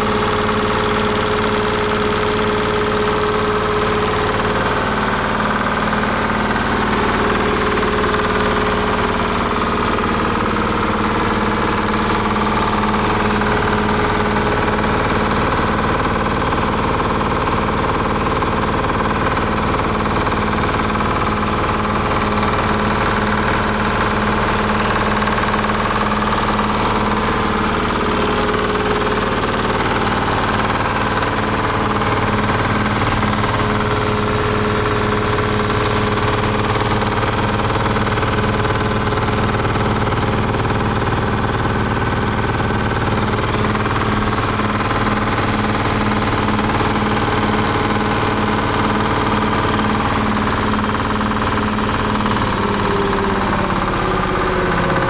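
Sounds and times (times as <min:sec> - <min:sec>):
diesel engine knocking evenly: 0:00.0 - 0:55.0.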